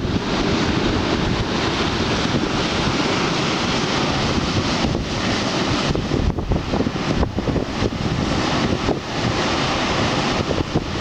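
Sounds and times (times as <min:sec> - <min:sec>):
surf breaking over rocky shore: 0:00.0 - 0:11.0
wind buffeting microphone: 0:00.0 - 0:11.0.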